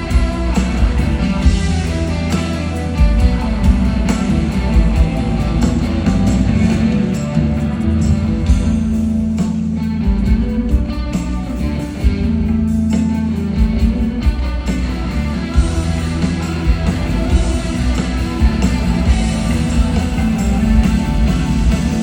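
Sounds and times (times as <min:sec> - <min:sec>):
rock band instrumental: 0:00.0 - 0:22.0.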